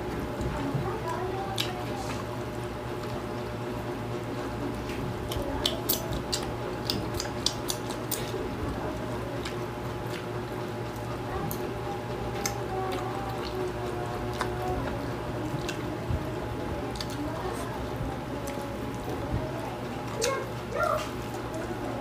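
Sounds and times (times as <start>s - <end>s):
people chewing with mouth smacks: 0.2s - 3.6s, 4.4s - 22.0s.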